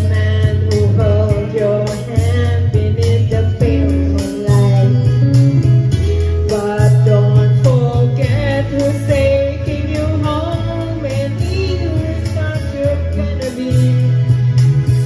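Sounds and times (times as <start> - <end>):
woman singing into microphone: 0.0 - 14.6
instrumental backing music: 0.0 - 15.0.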